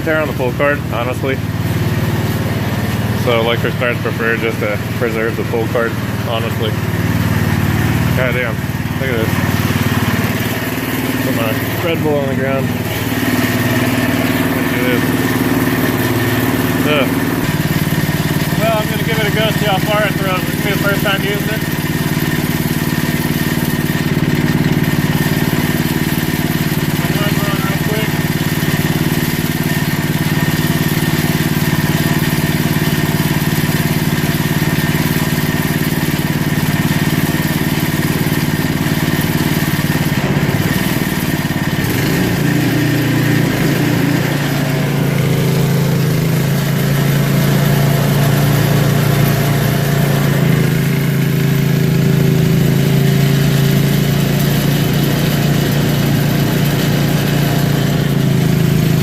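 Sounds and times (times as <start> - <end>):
snowblower engine running: 0.0 - 59.0.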